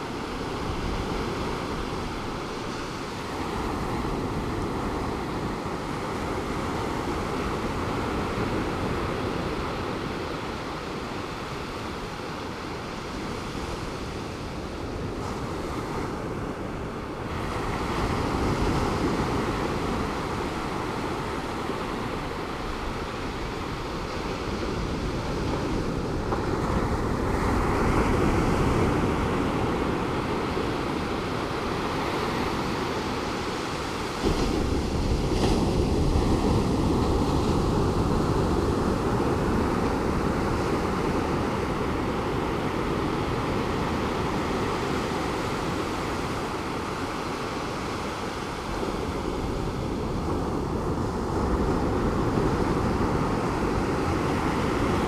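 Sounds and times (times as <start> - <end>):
ocean surf roaring: 0.0 - 55.0
wind on microphone: 0.0 - 55.0.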